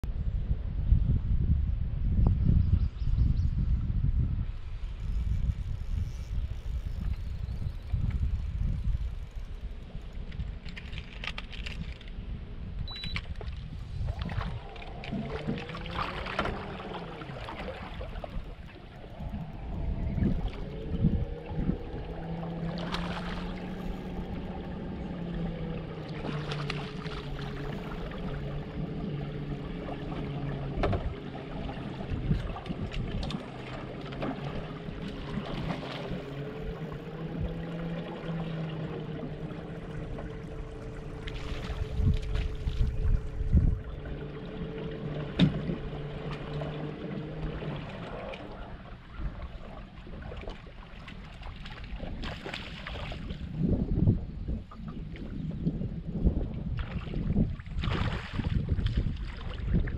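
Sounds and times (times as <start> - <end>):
steady low hum: 0.0 - 59.9
wind rumble on microphone: 0.0 - 59.9
water lapping against boat hull: 4.9 - 59.9.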